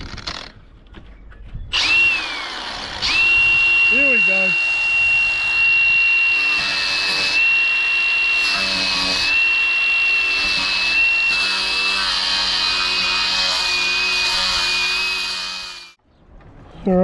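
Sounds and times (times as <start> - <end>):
angle grinder high whine: 1.8 - 16.0.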